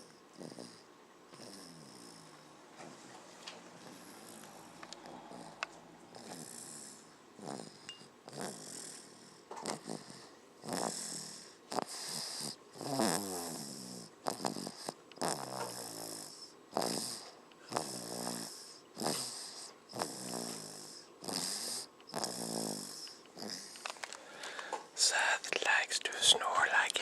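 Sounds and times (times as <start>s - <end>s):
baby snoring: 0.0s - 2.5s, 3.8s - 26.9s.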